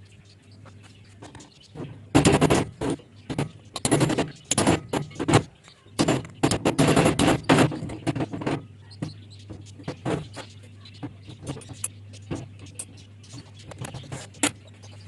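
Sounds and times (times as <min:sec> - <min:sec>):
metallic clattering and scraping: 0:00.8 - 0:15.0.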